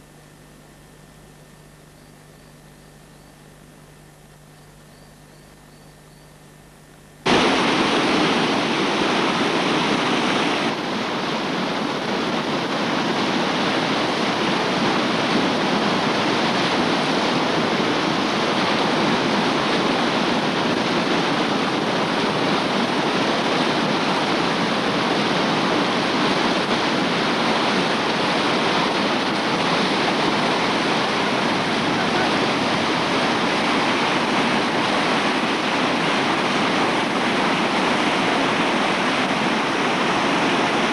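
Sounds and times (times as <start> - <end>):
churning river rapids: 7.3 - 40.9.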